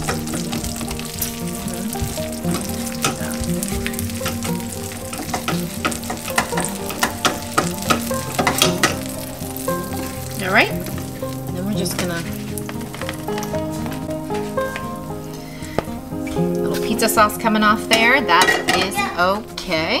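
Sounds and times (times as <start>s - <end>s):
spatula scraping a skillet: 0.0s - 17.0s
cheese sizzling in a skillet: 0.0s - 20.0s.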